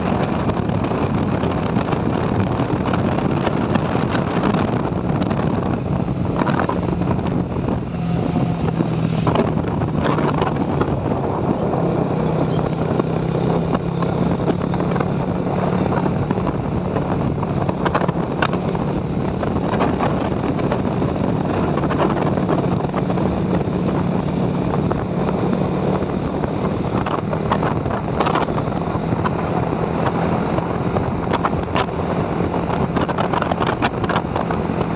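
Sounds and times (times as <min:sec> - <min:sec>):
motorcycle engine running: 0:00.0 - 0:34.9
wind on microphone: 0:00.0 - 0:34.9.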